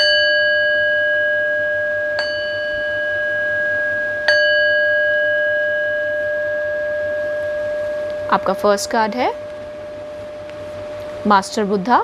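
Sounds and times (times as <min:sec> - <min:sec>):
singing bowl struck and ringing: 0:00.0 - 0:11.3.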